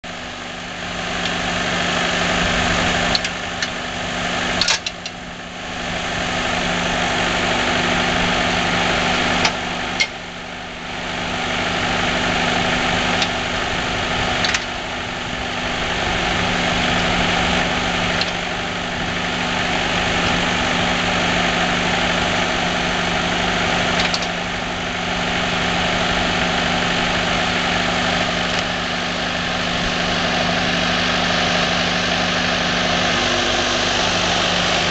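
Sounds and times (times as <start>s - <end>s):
firewood processor engine running: 0.0s - 34.9s.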